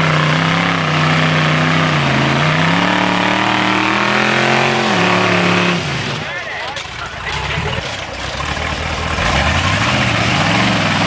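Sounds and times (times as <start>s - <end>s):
buggy engine under heavy throttle: 0.0s - 11.0s
tire spinning on rock: 0.0s - 11.0s.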